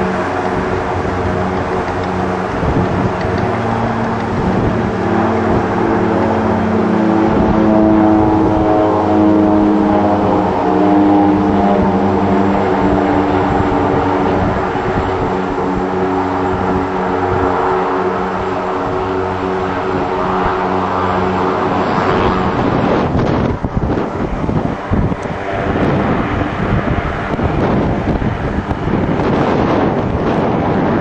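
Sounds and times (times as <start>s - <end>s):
propeller aircraft drone: 0.0s - 31.0s.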